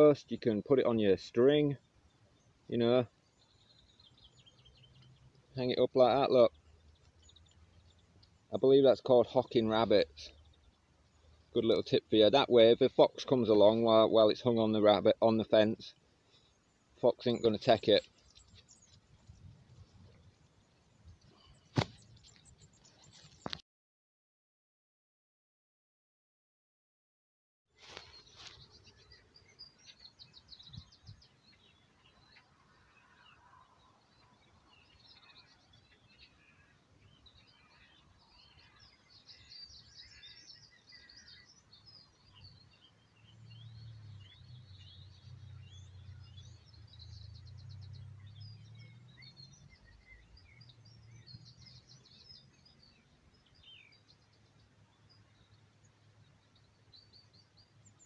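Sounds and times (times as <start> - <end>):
birds chirping: 0.0 - 23.6, 27.8 - 58.0.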